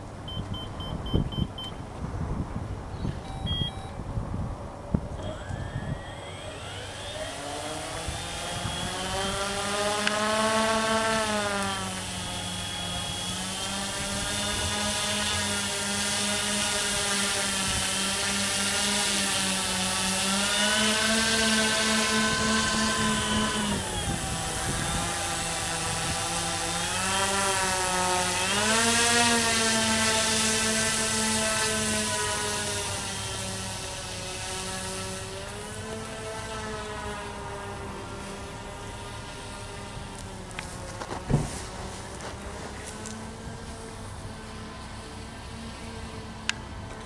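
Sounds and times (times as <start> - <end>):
model plane motors running: 4.9 - 47.0.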